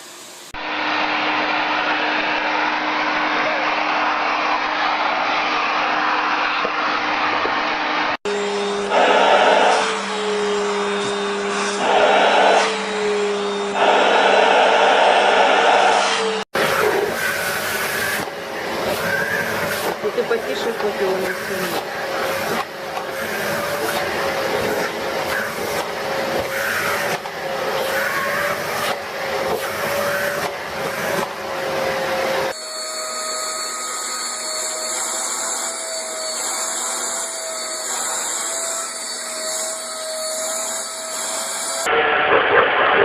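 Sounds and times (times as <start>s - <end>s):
vacuum cleaner whining: 0.0s - 43.0s.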